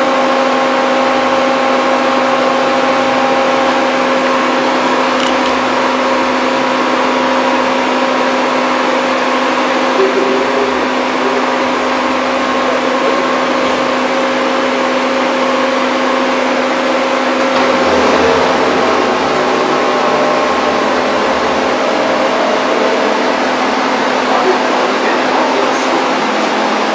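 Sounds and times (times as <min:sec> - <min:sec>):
drilling machine hum and whine: 0:00.0 - 0:26.9
deep rumble: 0:00.6 - 0:26.3.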